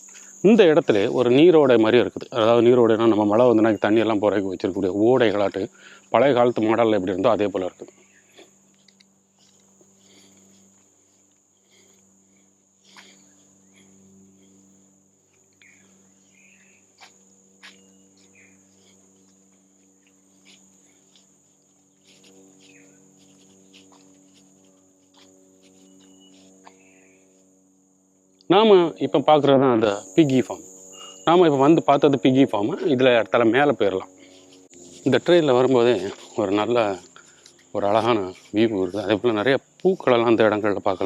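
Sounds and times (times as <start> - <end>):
forest insects droning: 0.0 - 41.0.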